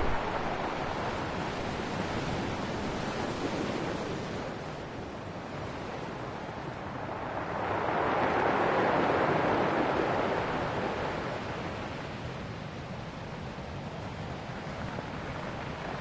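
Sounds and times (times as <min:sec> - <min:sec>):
ocean waves washing ashore: 0:00.0 - 0:16.0.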